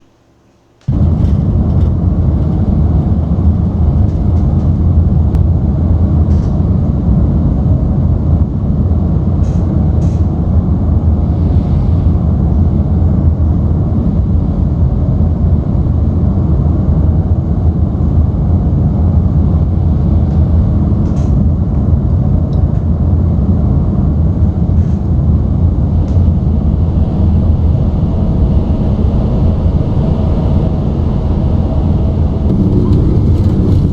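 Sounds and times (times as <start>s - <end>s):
airliner engine and airflow roar: 0.8s - 33.9s.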